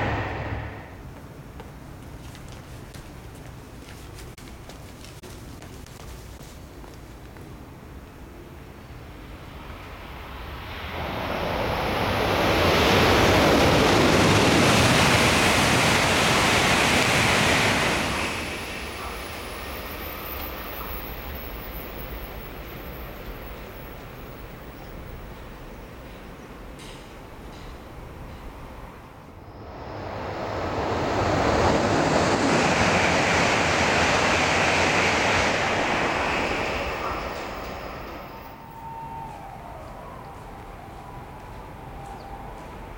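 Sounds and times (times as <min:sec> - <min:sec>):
high-speed train passing: 0:00.0 - 0:03.9, 0:07.4 - 0:42.9.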